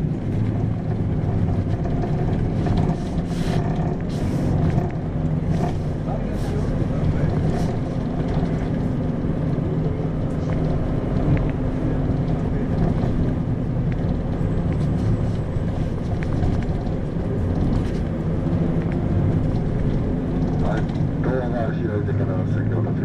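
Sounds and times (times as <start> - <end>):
diesel bus engine hum: 0.0 - 23.0
road rumble: 0.0 - 23.0.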